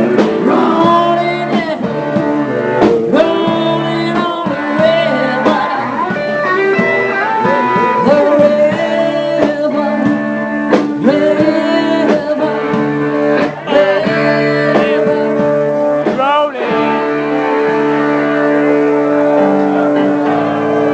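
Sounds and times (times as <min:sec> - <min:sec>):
electric guitar: 0:00.0 - 0:20.9
live blues band: 0:00.0 - 0:20.9.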